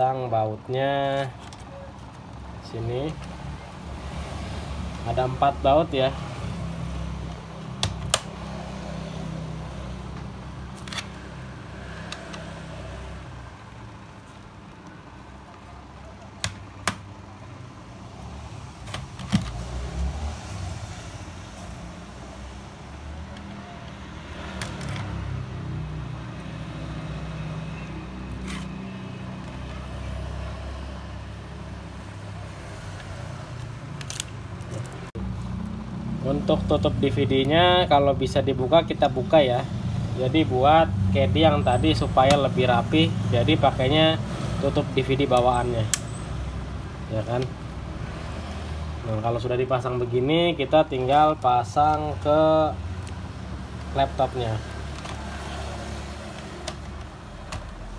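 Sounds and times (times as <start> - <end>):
road traffic rumble: 0.0 - 57.9.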